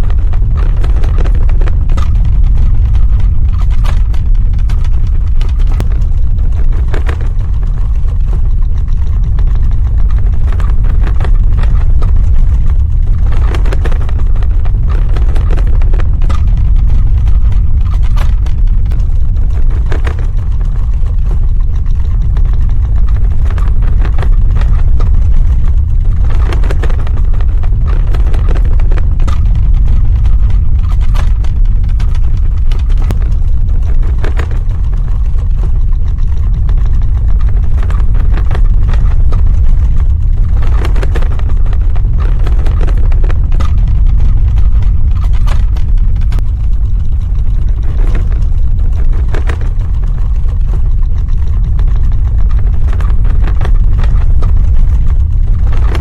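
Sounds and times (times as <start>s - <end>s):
crackles and rattles: 0.0s - 56.0s
deep earthquake rumble: 0.0s - 56.0s.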